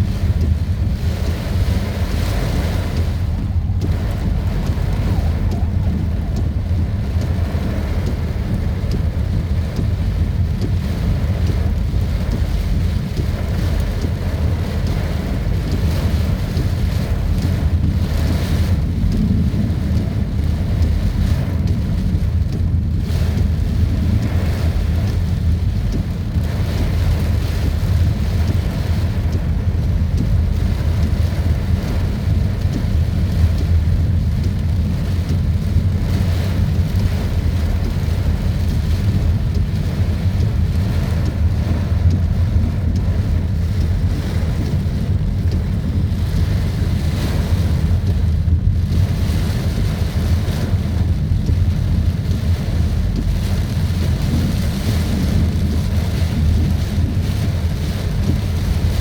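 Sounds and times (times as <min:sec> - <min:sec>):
heavy rain: 0:00.0 - 0:59.0
wind buffeting microphone: 0:00.0 - 0:59.0.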